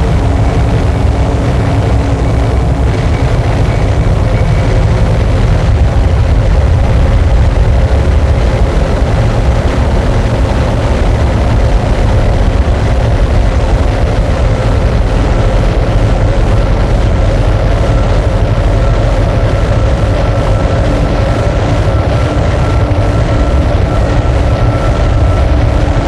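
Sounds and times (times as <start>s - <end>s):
harsh distorted noise music: 0.0s - 26.0s.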